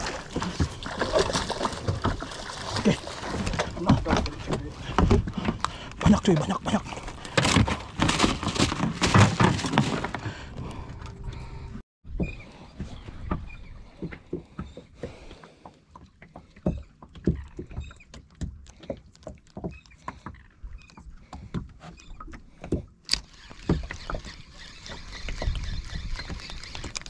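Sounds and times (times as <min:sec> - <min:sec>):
water lapping against boat hull: 0:00.0 - 0:27.0.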